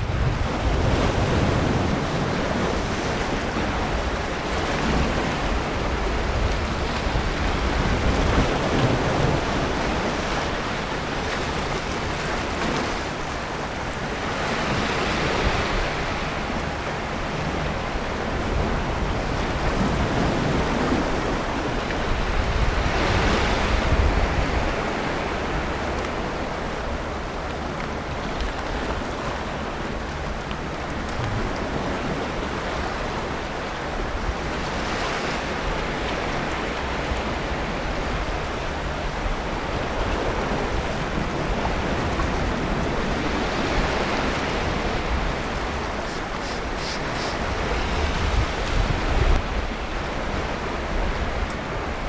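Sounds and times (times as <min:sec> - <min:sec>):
waves washing onto beach: 0:00.0 - 0:52.0.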